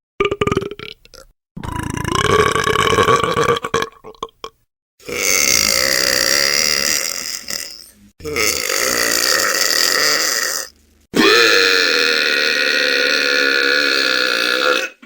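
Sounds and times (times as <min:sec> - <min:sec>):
long drawn-out burps: 0:00.2 - 0:15.0.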